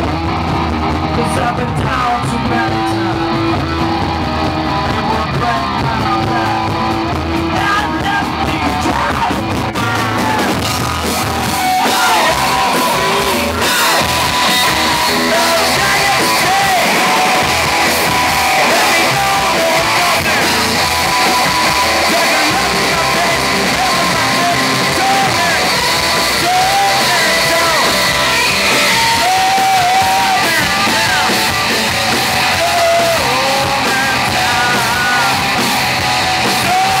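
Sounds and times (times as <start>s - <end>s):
bass guitar: 0.0s - 37.0s
drums: 0.0s - 37.0s
electric guitars: 0.0s - 37.0s
person singing lead vocal: 1.0s - 37.0s.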